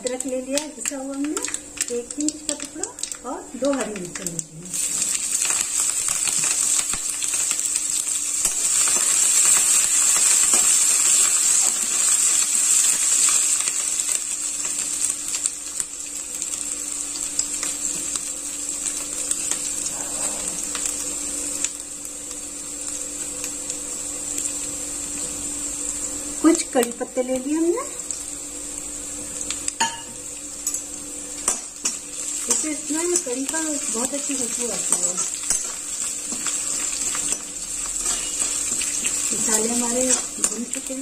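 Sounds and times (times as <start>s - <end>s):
chillies sizzling in hot oil: 0.0s - 41.0s.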